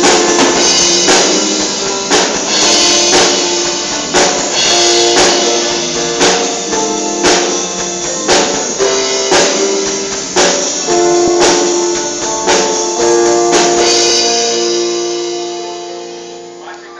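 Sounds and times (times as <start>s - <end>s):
sharp percussion hits: 0.0s - 16.9s
worship band sustained chords: 0.0s - 16.9s.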